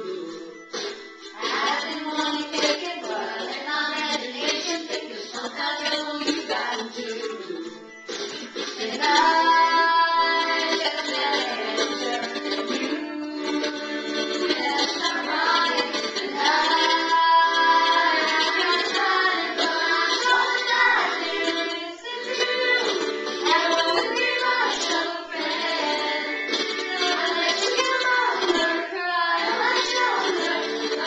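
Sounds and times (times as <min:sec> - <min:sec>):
girls singing together: 0:00.0 - 0:07.8, 0:08.4 - 0:31.0.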